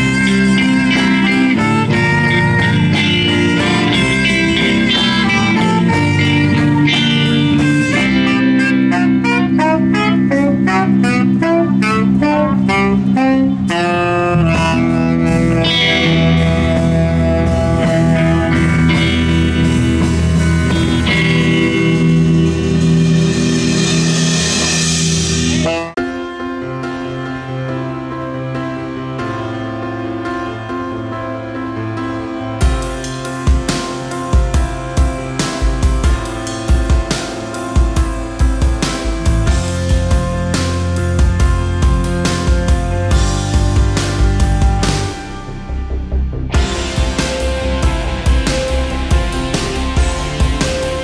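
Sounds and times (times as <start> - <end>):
bass line: 0.0 - 27.2, 28.0 - 51.0
electric guitar: 0.0 - 51.0
live blues band playing: 0.0 - 51.0.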